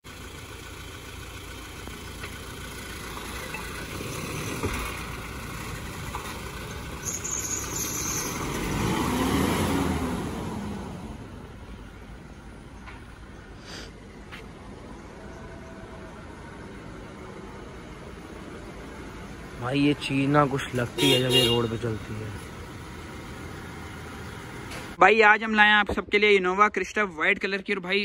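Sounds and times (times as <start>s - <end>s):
car engine pulling away: 0.0s - 25.0s.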